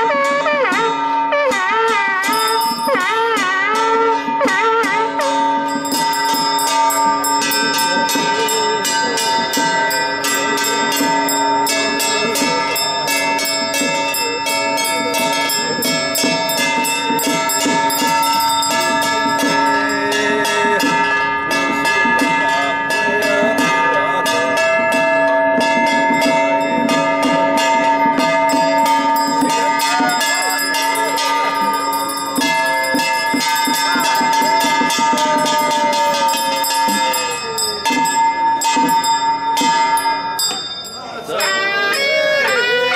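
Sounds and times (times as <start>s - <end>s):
ringing metal percussion: 0.0s - 42.9s
wavering melody line: 5.0s - 42.9s.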